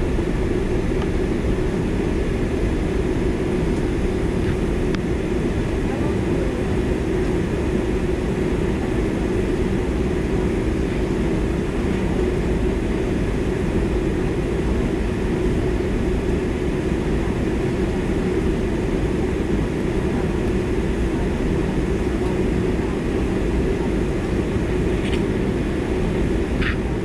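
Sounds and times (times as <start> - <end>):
airliner cabin drone: 0.0 - 27.0
jet engines idling: 0.0 - 27.0.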